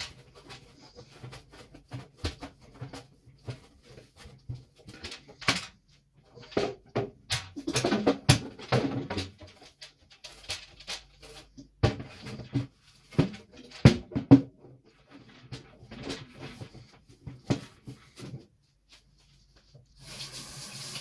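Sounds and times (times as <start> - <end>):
kitchen containers being handled: 0.0 - 18.6.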